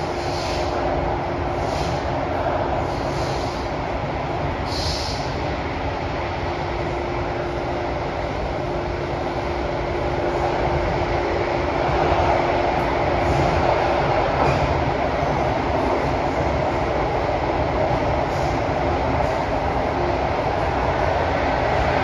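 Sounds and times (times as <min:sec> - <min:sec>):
rumble of train wheels: 0:00.0 - 0:22.0.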